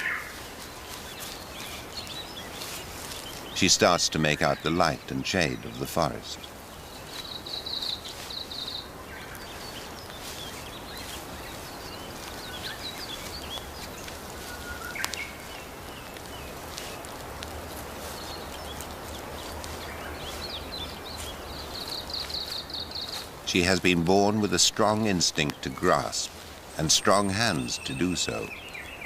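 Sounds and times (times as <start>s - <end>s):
bird chirps: 0.0s - 17.1s, 18.0s - 29.0s
steady hiss: 0.0s - 28.9s.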